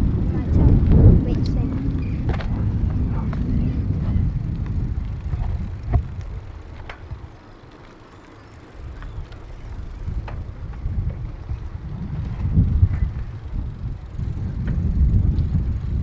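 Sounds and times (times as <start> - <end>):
wind rumbling on microphone: 0.0 - 7.7, 8.8 - 16.0
bicycle clicks and rattles: 0.0 - 16.0.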